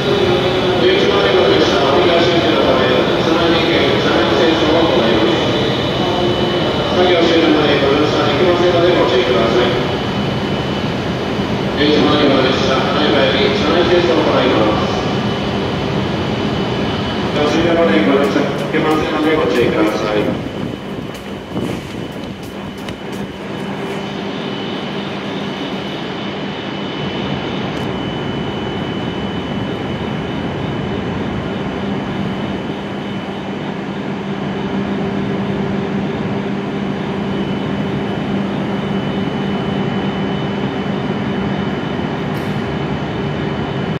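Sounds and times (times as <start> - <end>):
train humming with high whine: 0.0 - 44.0.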